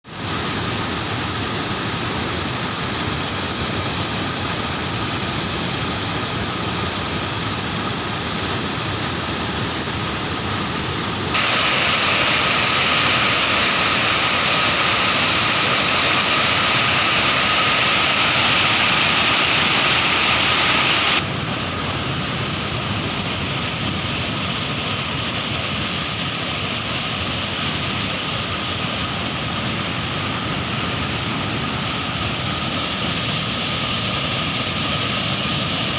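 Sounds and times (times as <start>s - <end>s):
waterfall roaring: 0.1s - 35.9s.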